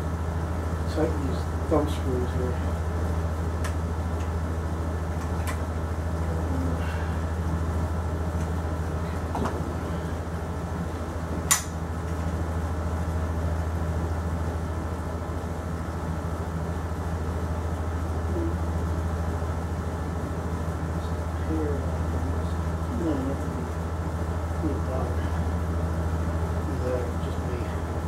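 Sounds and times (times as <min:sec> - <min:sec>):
room background hum: 0:00.0 - 0:28.0.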